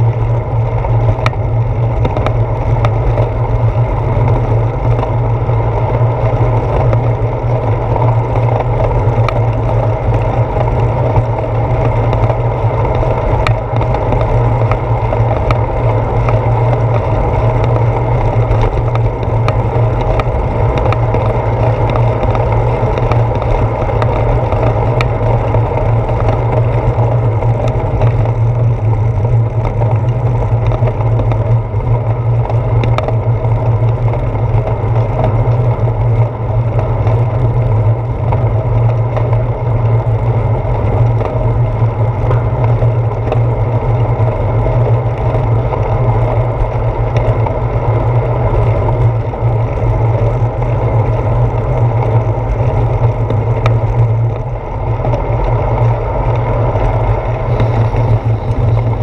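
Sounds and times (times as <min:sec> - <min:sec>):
bicycle clicks and rattles: 0:00.0 - 0:59.0
wind and road rumble: 0:00.0 - 0:59.0.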